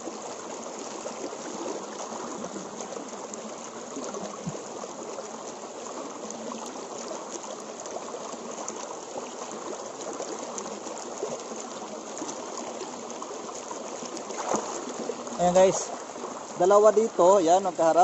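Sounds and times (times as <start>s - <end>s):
stream flowing over rocks: 0.0s - 18.0s.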